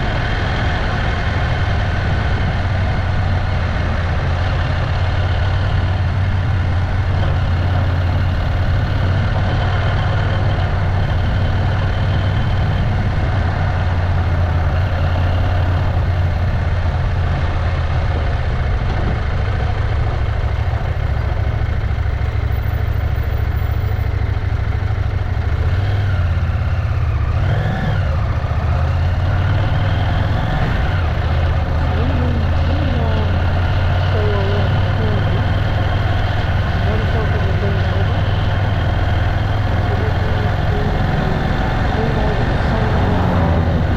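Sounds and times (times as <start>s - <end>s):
motorcycle engine droning: 0.0s - 43.9s.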